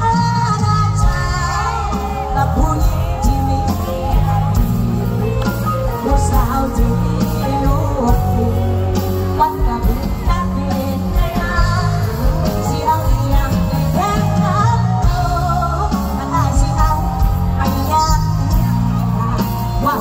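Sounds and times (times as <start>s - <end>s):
live band music with singing: 0.0s - 20.0s.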